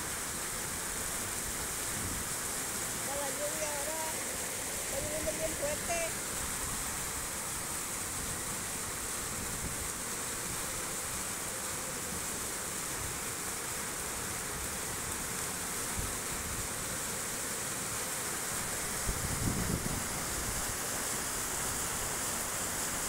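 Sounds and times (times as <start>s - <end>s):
floodwater rushing down street: 0.0s - 23.0s
heavy rain: 0.0s - 23.0s.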